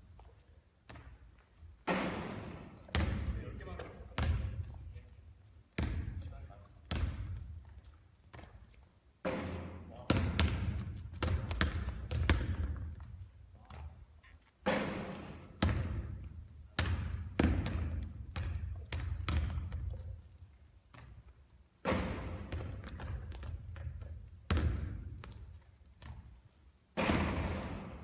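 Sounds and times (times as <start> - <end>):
basketball bouncing: 0.8 - 4.9, 5.7 - 14.0, 14.6 - 20.2, 20.9 - 28.0.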